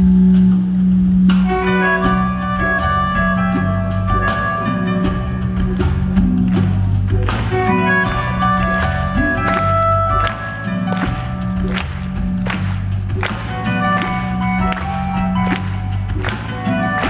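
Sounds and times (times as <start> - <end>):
electronic tango music: 0.1 - 17.0.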